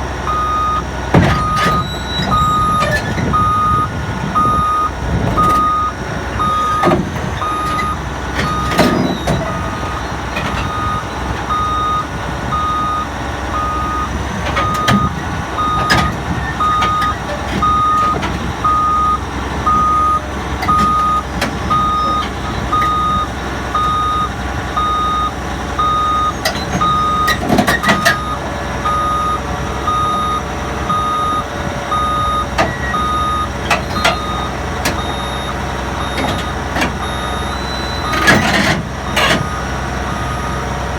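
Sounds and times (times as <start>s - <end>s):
diesel engine running: 0.0s - 40.9s
backup alarm beeping: 0.3s - 40.6s.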